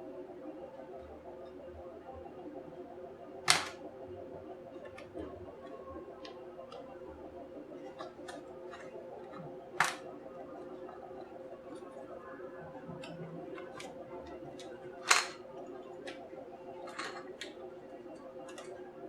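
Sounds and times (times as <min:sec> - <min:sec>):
steady low hum: 0:00.0 - 0:19.0
faint ticks and taps: 0:00.5 - 0:19.0.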